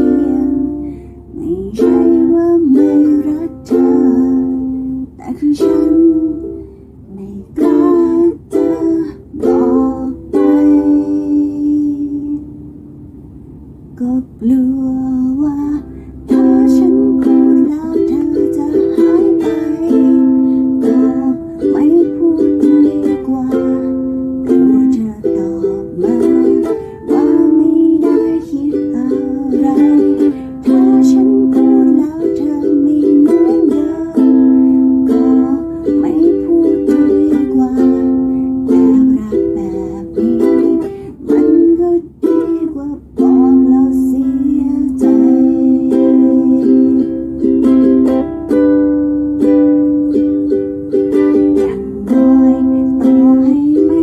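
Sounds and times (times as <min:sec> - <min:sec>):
ukulele accompaniment: 0:00.0 - 0:54.0.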